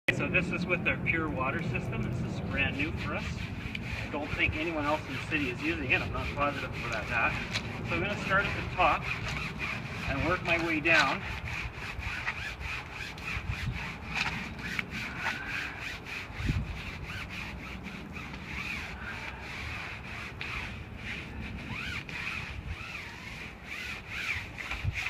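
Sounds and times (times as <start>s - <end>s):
brush scrubbing wet mesh screen: 1.4s - 25.0s.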